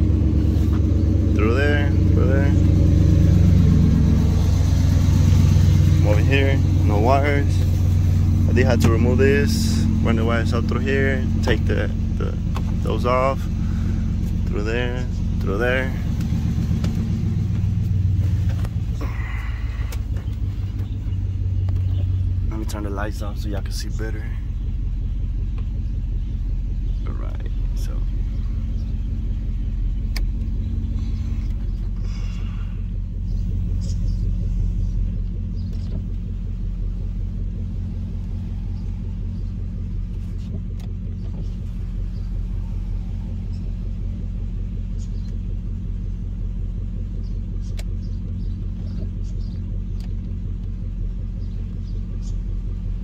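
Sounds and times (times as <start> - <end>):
pickup engine idling: 0.0 - 53.0.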